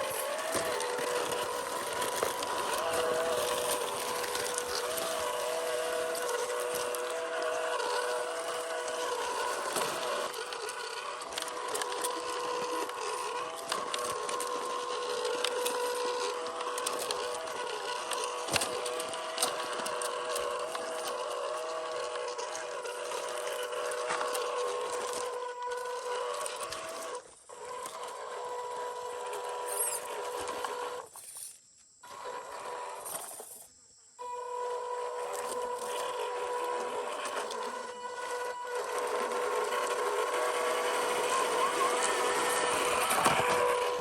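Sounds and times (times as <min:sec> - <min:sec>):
electric motor whining: 0:00.0 - 0:31.1, 0:32.0 - 0:44.0.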